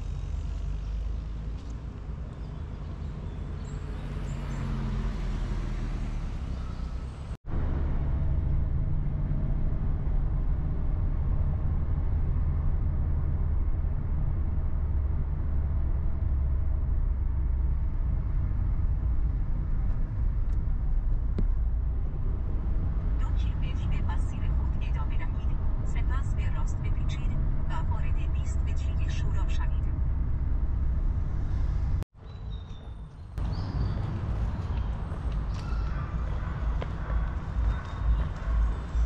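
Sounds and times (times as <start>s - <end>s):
vehicle rumble in motion: 0.0s - 39.0s.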